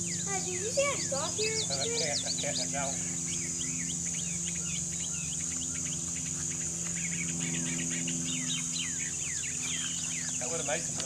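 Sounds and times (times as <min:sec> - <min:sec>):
bird chirps: 0:00.0 - 0:11.0
insects droning: 0:00.0 - 0:11.0
low steady hum: 0:00.0 - 0:11.0.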